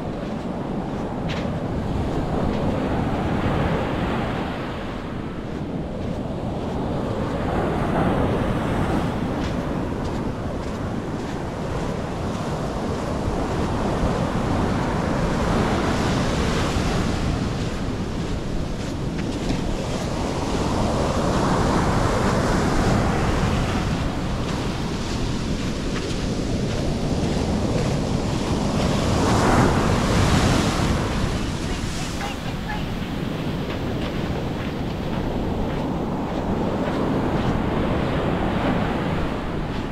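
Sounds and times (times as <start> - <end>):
waves breaking on beach: 0.0 - 39.9
wind on microphone: 0.0 - 39.9.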